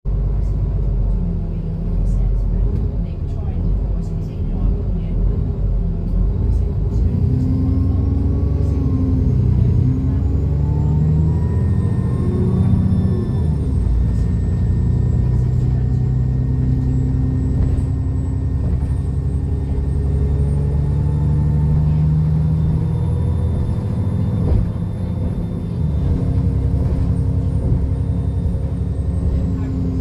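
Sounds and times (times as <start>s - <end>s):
diesel bus engine pulling hard: 0.1s - 30.0s.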